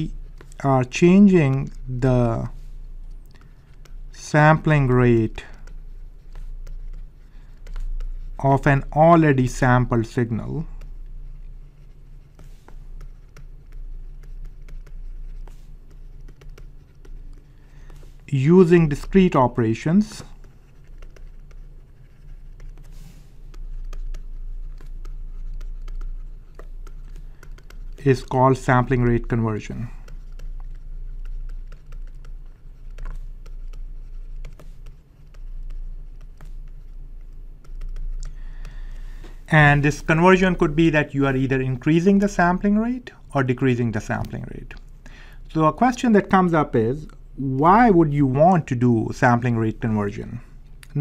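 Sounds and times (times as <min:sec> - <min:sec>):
low steady hum: 0:00.0 - 0:51.0
stylus tapping and scratching on screen: 0:00.0 - 0:51.0.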